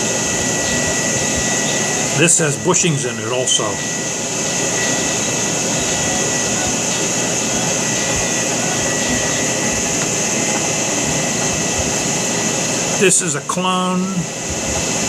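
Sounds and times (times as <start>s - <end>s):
faint high whine: 0.0s - 15.0s
fan blowing: 0.0s - 15.0s.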